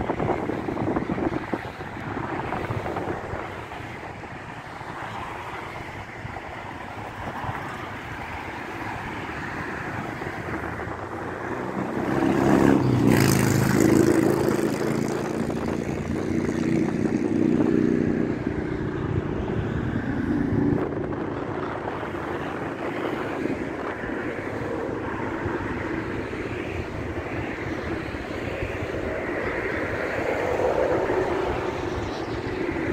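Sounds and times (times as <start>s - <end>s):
engine passing: 0.0s - 32.9s
wind buffeting microphone: 0.0s - 32.9s.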